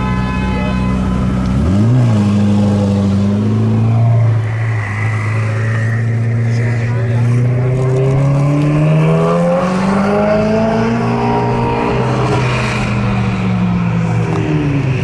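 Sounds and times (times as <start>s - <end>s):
sports car engine revving: 0.8s - 15.0s.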